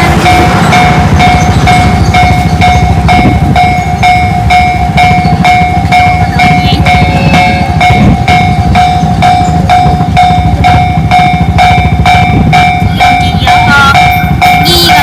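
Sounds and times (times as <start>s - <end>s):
freight train rumble and wheel clatter: 0.0s - 15.0s
level-crossing alarm ringing: 0.0s - 15.0s.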